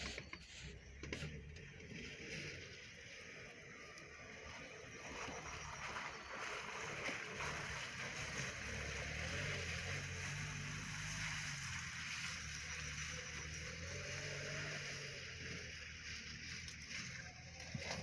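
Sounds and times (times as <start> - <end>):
car engine running under load: 0.0 - 18.0.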